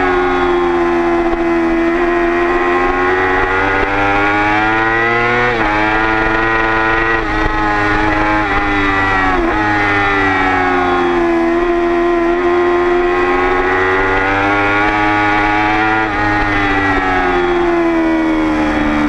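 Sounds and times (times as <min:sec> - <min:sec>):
motorcycle engine at speed: 0:00.0 - 0:19.0.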